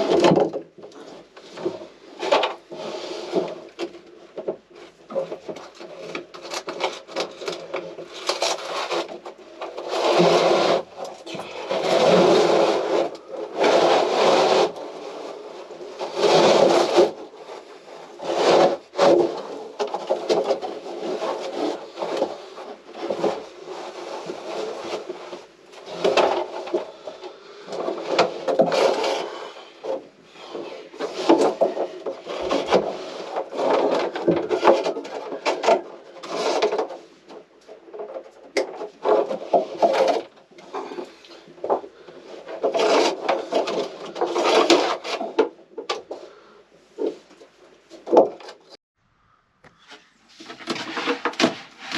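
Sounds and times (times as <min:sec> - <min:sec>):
scraping and rasping on wood: 0:00.0 - 0:48.8, 0:49.6 - 0:51.9.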